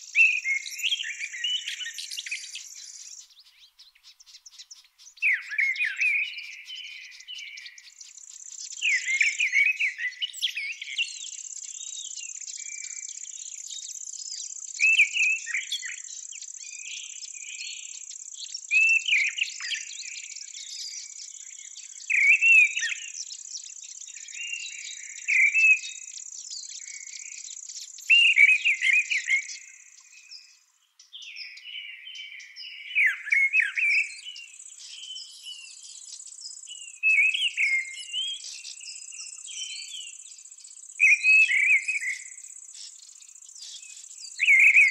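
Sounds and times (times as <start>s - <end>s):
songbird warbling: 0.0s - 44.9s.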